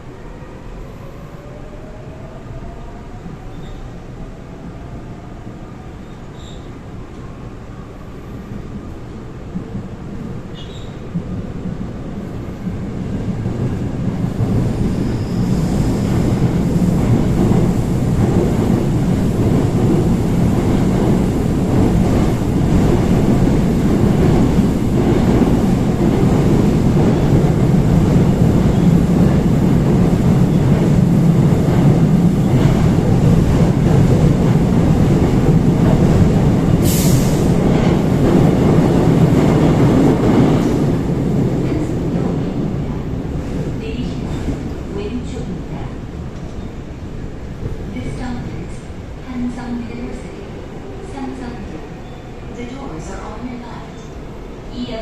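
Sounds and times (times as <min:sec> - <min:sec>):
subway train wheels rumbling: 0:00.0 - 0:55.0.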